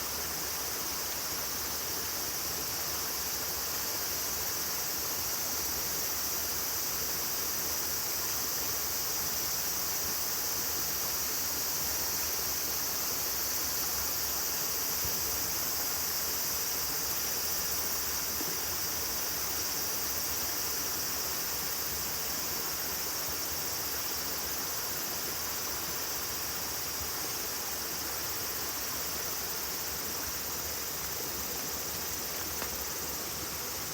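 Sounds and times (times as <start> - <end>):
insects trilling: 0.0 - 33.9.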